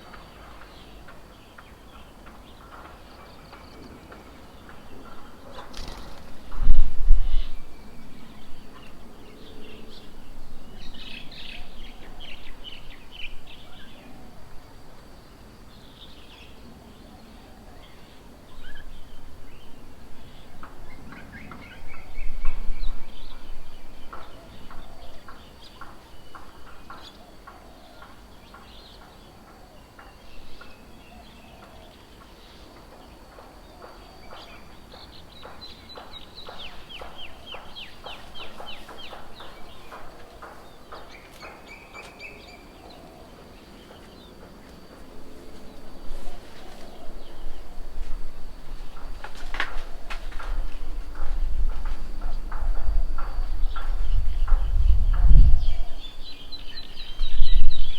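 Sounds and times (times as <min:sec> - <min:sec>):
birds chirping and calling: 0:00.0 - 0:14.8, 0:15.8 - 0:57.9.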